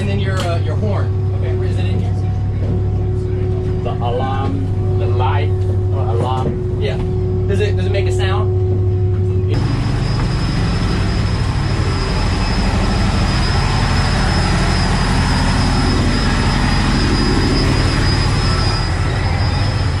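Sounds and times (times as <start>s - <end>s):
boat engine droning: 0.0s - 20.0s
faint high whine: 0.0s - 20.0s.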